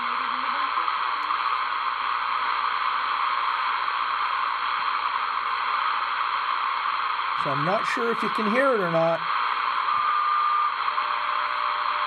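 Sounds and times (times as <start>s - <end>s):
shortwave radio static: 0.0s - 12.0s.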